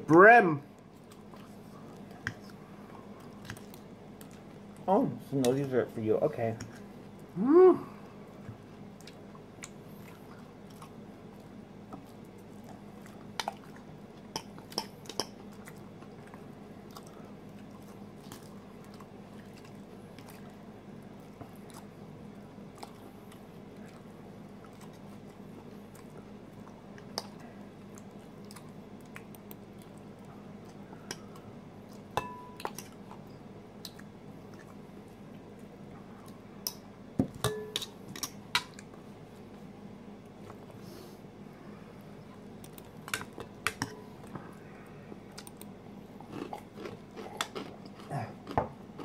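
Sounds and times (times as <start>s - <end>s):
person chewing salad: 0.9s - 4.9s, 8.0s - 36.8s, 42.0s - 49.0s.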